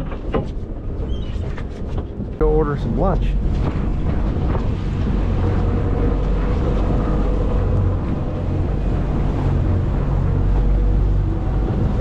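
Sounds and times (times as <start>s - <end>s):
boat engine humming: 0.0s - 12.0s
wind buffeting microphone: 0.0s - 12.0s.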